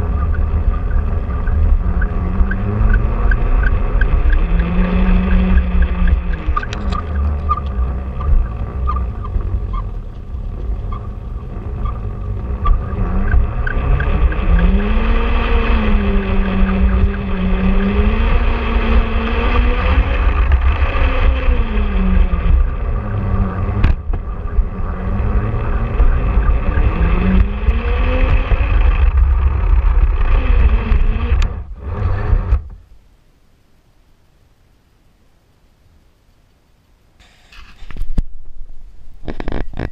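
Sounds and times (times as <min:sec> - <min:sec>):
wheels rumbling on track: 0:00.0 - 0:33.3.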